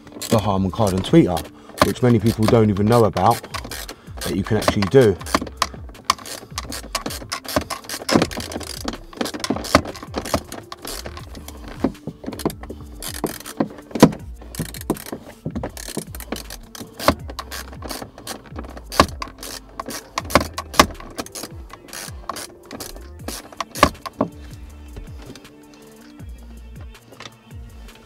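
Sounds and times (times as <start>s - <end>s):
ratcheting screwdriver clicking: 0.0s - 27.4s.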